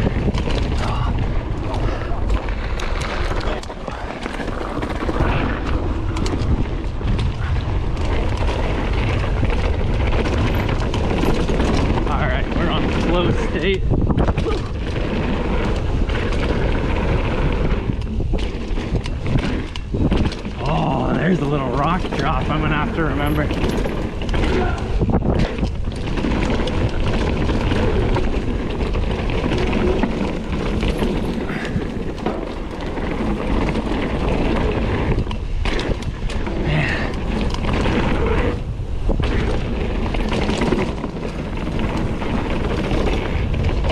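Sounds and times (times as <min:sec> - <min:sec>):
bike clicks and rattles: 0:00.0 - 0:43.9
tyre rumble on dirt: 0:00.0 - 0:43.9
wind rushing over microphone: 0:00.0 - 0:43.9.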